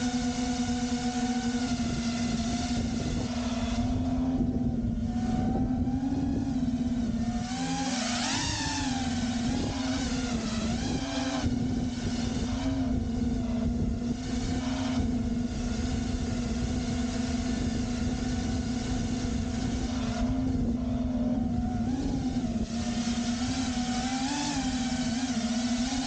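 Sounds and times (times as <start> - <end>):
quadcopter propellers whining: 0.0 - 26.0
wind on microphone: 0.0 - 26.0.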